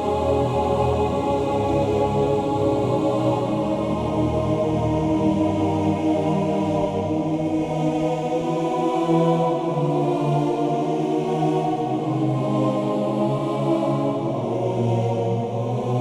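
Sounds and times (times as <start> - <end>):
synthesized choir chords: 0.0 - 16.0.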